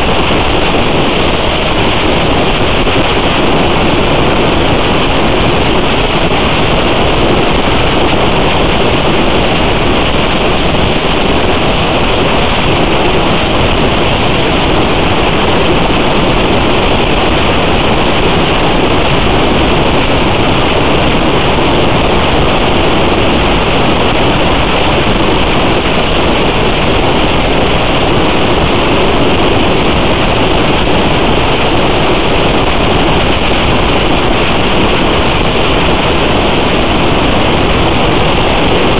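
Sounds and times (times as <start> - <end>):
loud steady rushing hiss: 0.0 - 38.9.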